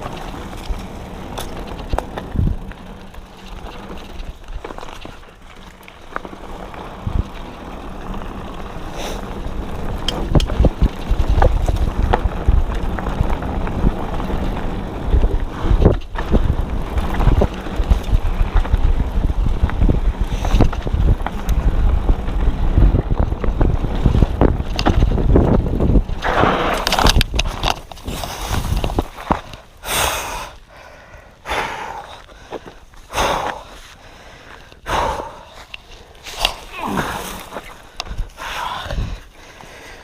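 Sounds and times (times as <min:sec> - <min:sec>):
wind rushing over microphone: 0:00.0 - 0:04.8, 0:06.2 - 0:30.6, 0:36.3 - 0:39.4
bike clicks and rattles: 0:00.0 - 0:40.0.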